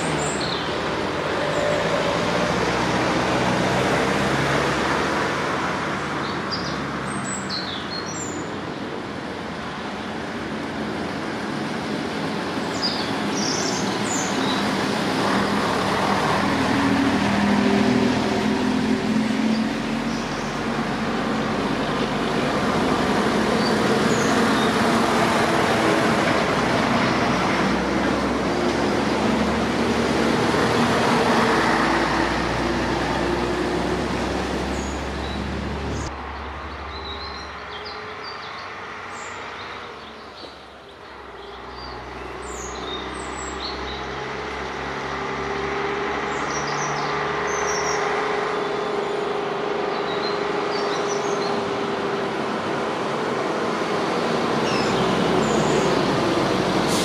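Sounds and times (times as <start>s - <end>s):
truck diesel engines driving past: 0.0s - 57.0s.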